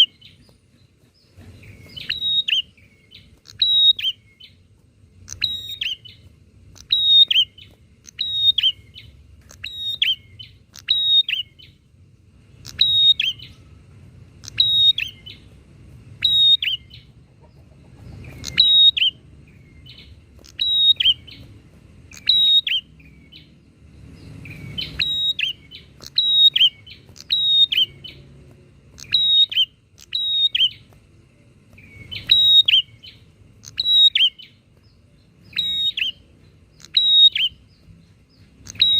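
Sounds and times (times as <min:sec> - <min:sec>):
birds chirping calls: 0:00.0 - 0:38.9.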